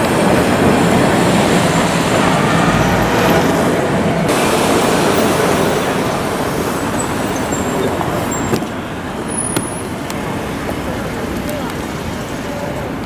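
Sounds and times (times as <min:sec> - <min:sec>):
city traffic: 0:00.0 - 0:13.0
tram rumbling on rails: 0:00.0 - 0:13.0.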